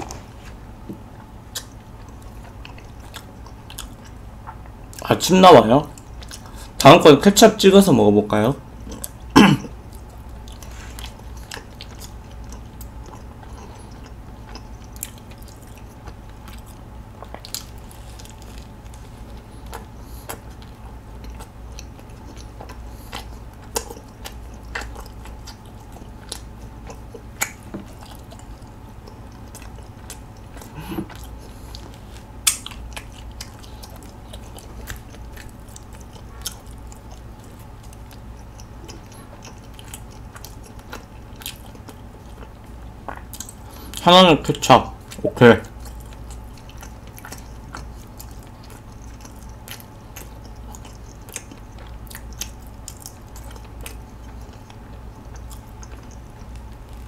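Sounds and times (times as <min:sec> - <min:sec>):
biting and chewing: 0:00.0 - 0:05.1, 0:08.7 - 0:44.0, 0:44.9 - 0:57.0.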